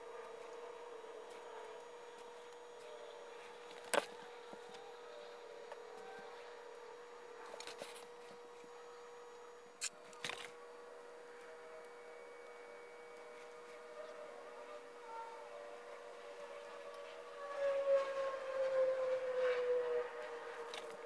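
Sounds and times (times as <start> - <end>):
steady faint hum: 0.0 - 21.0.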